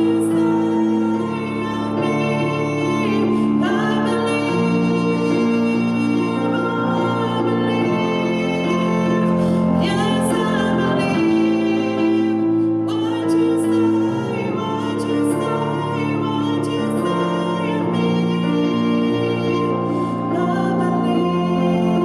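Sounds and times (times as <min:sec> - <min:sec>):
piano accompaniment: 0:00.0 - 0:22.0
woman singing gospel song: 0:00.0 - 0:22.0.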